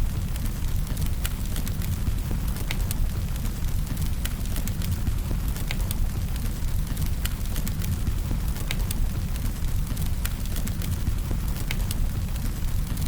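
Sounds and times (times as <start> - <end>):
burning wood crackling and popping: 0.0 - 13.0
fire rumbling: 0.0 - 13.0.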